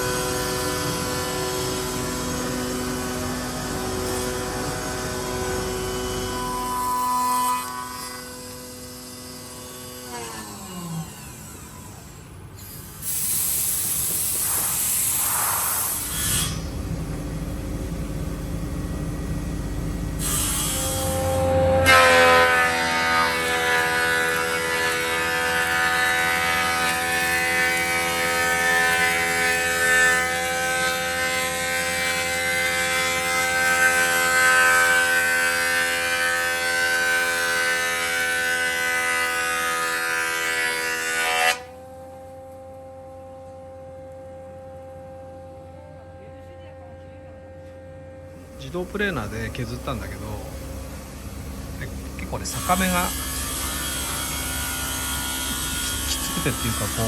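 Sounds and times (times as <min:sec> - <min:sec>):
machine whining hum: 0:00.0 - 0:57.0.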